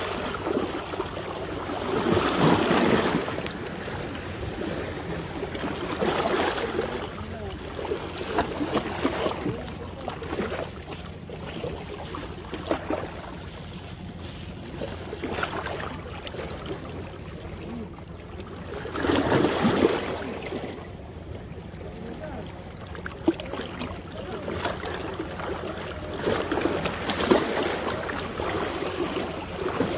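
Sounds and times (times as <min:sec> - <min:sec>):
waves splashing against rocks: 0:00.0 - 0:29.9.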